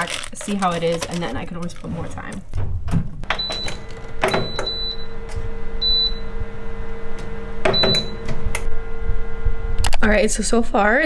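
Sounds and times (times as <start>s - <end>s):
oven fan humming: 0.0s - 11.0s.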